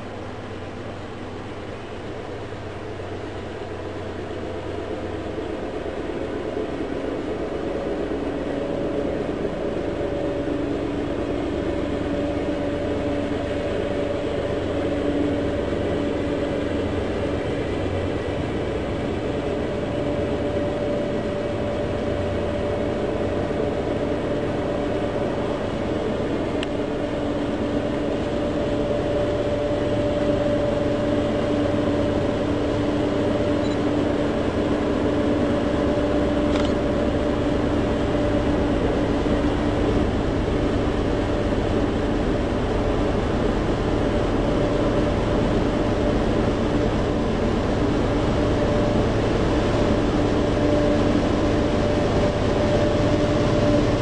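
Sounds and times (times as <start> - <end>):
distant locomotive engines droning: 0.0 - 54.0.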